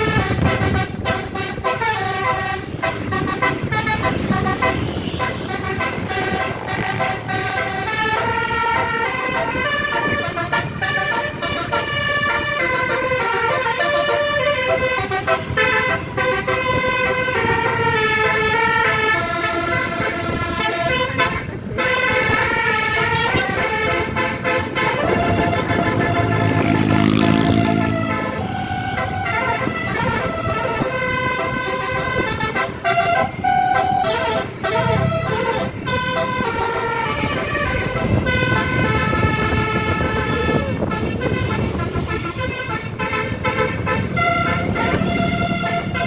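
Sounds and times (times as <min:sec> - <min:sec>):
bus engine and road rumble: 0:00.0 - 0:46.0
multi-tone bus horn melody: 0:00.0 - 0:46.0.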